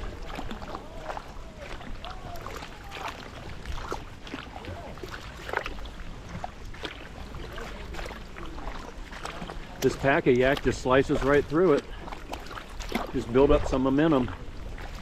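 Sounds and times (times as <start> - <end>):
kayak swishing through weeds: 0.0 - 15.0.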